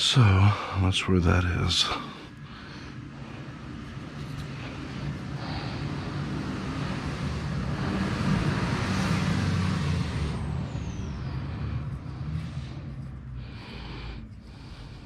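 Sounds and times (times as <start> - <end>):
vehicle driving past: 1.9 - 15.0.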